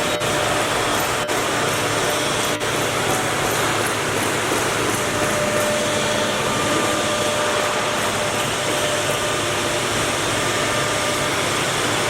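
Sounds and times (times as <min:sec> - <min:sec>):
machine hiss: 0:00.0 - 0:12.0
spindle whine: 0:00.0 - 0:12.0.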